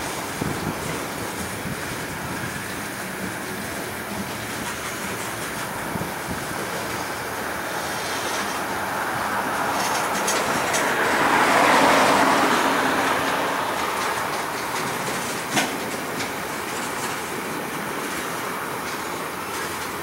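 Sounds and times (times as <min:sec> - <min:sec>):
freight train wheels rumbling: 0:00.0 - 0:20.0
train wheel clicks: 0:00.0 - 0:20.0.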